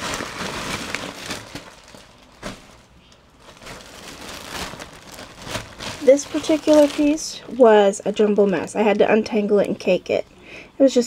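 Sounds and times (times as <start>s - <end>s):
bag crinkling and rustling: 0.0s - 9.8s.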